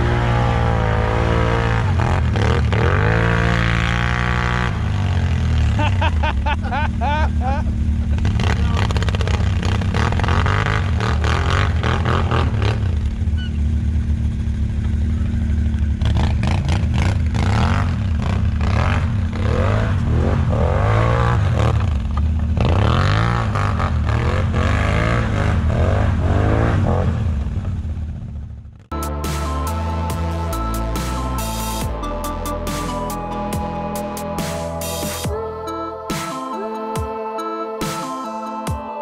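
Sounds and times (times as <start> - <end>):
low engine hum: 0.0 - 32.4
quad engine revving: 0.0 - 35.5.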